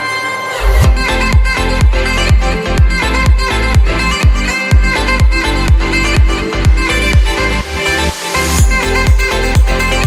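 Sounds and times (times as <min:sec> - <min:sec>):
heavy bass and kick drum: 0:00.8 - 0:10.0.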